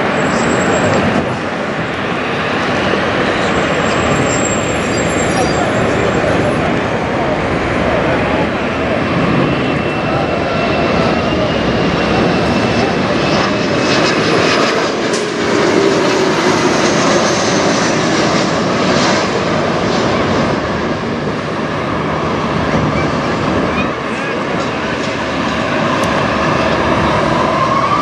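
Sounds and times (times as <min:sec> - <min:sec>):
jet passing overhead: 0:00.0 - 0:28.0.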